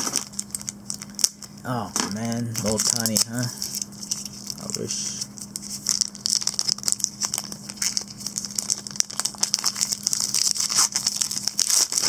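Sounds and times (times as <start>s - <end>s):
cards clicking and wrappers crinkling: 0.0s - 12.0s.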